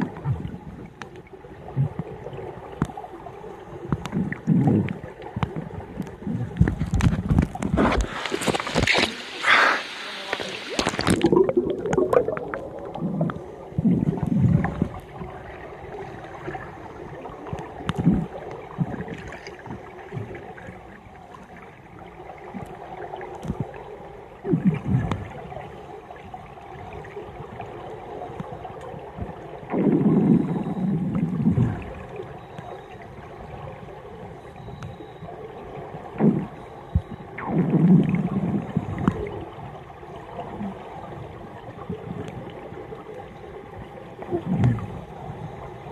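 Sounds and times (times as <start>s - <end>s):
scuba bubbles gurgling underwater: 0.0s - 45.9s
steady underwater hiss: 7.6s - 45.9s.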